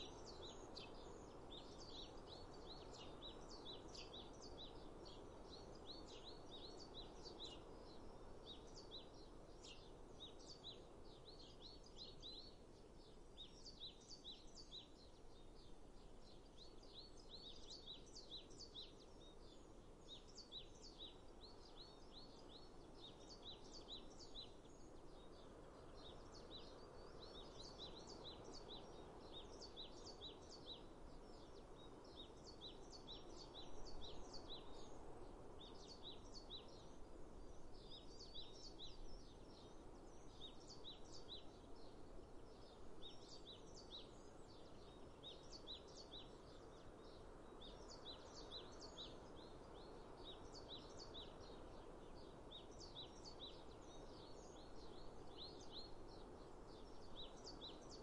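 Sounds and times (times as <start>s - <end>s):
small birds chirping: 0.0s - 58.0s
soft background hiss: 0.0s - 58.0s.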